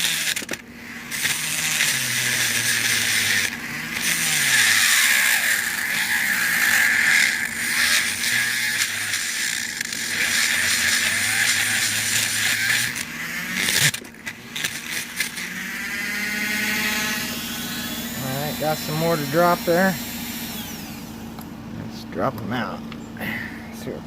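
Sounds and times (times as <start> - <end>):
power drill grinding into metal: 0.0 - 21.4.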